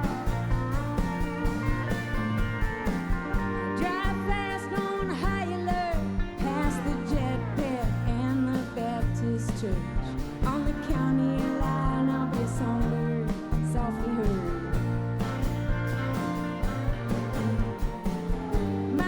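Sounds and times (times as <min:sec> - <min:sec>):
bending guitar lead line: 0:00.0 - 0:19.0
live country-rock band: 0:00.0 - 0:19.0.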